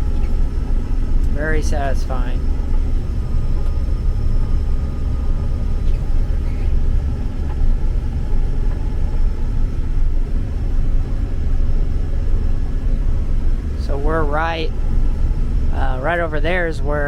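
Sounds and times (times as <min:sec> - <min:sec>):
combine harvester rumble: 0:00.0 - 0:17.0
faint steady whine: 0:00.0 - 0:17.0.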